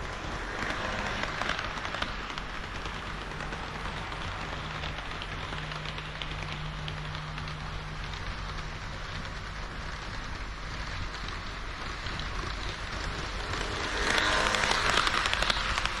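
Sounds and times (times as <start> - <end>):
model train wheels rattling on rails: 0.0 - 16.0.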